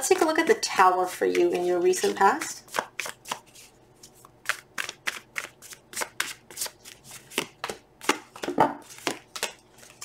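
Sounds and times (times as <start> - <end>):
cards being shuffled: 2.0 - 10.0.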